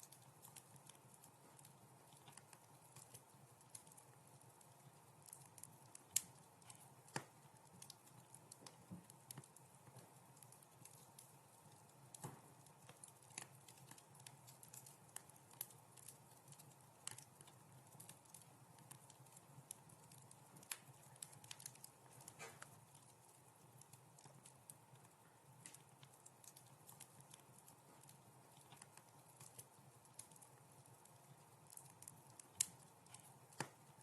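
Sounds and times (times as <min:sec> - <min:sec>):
faint steady hiss: 0:00.0 - 0:34.0
wood fire crackling: 0:00.0 - 0:34.0.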